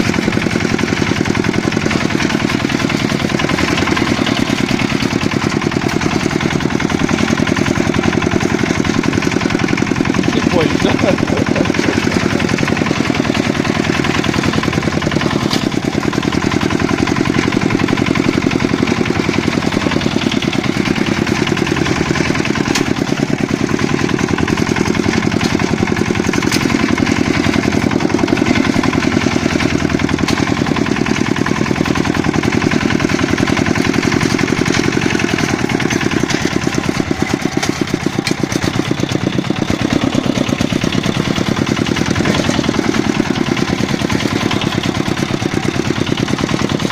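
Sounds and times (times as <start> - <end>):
tractor engine puttering: 0.0 - 46.9.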